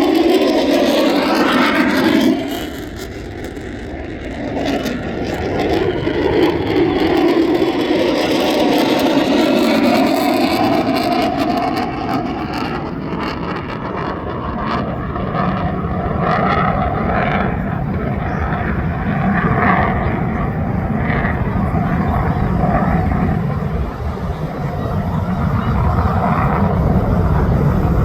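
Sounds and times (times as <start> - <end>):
jet engine roaring: 0.0 - 28.0.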